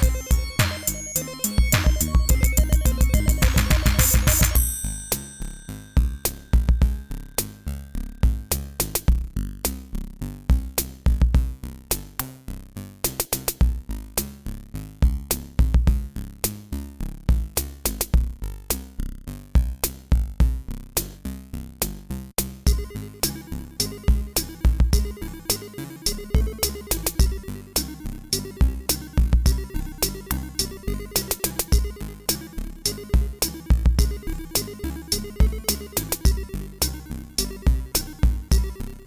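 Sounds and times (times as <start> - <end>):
electronic music with drum beat: 0.0 - 5.4, 6.0 - 9.9, 10.5 - 12.2, 13.1 - 13.9, 15.0 - 16.2, 17.3 - 18.4, 19.6 - 20.7, 22.4 - 39.0.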